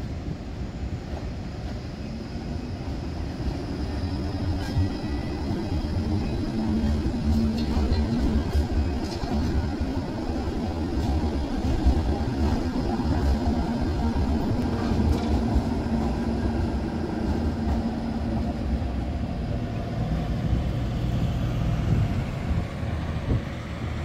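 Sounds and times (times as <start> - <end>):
tram rumbling: 0.0 - 24.0.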